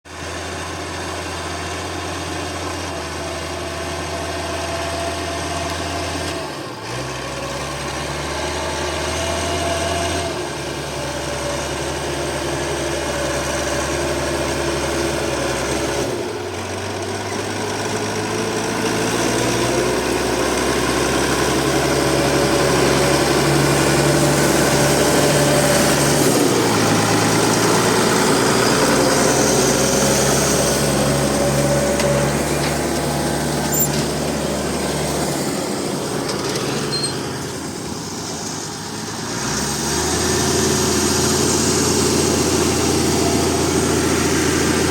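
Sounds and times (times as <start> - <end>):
tractor diesel engine running: 0.1 - 44.9.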